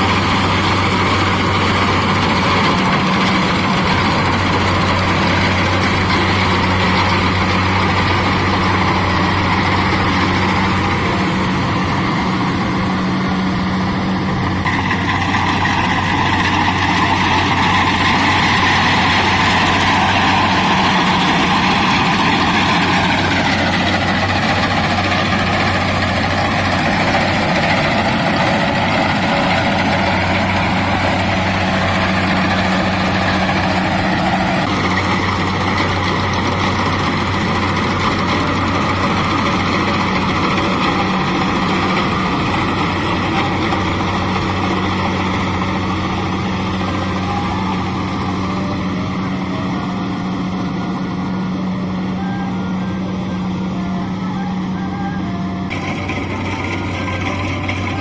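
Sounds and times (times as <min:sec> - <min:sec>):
diesel engine hum: 0:00.0 - 0:58.0.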